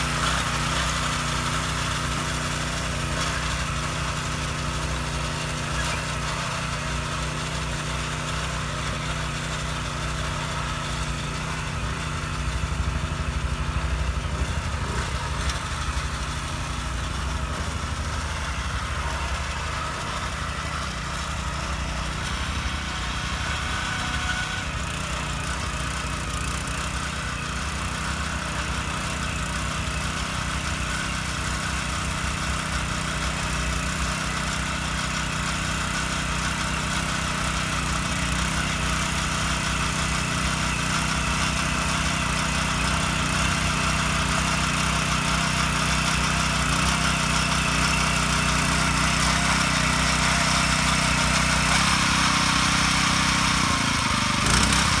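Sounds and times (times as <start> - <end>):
mini tiller engine running: 0.0 - 55.0
tines working through soil: 0.0 - 55.0.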